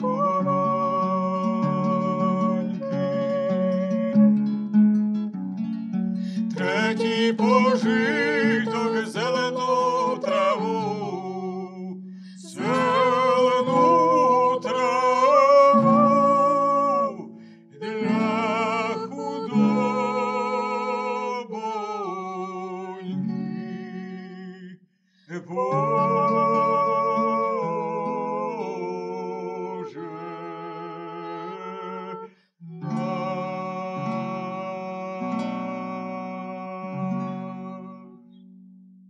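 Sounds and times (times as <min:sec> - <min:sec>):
man and woman singing: 0:00.0 - 0:04.6, 0:06.2 - 0:38.2.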